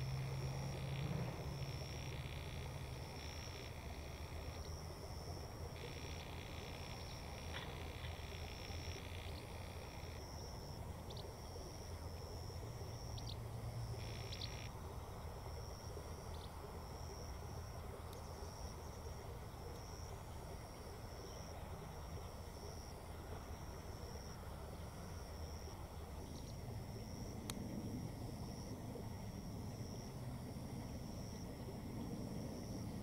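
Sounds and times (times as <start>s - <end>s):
cricket chirping: 0.0s - 33.0s
low background rumble: 0.0s - 33.0s.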